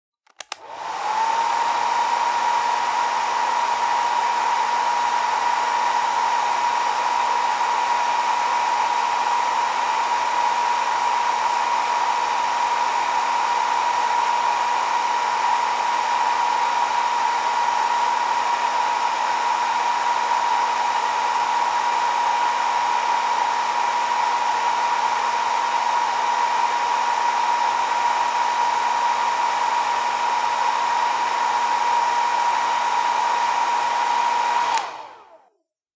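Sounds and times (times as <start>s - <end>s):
hair dryer running: 0.3s - 35.6s.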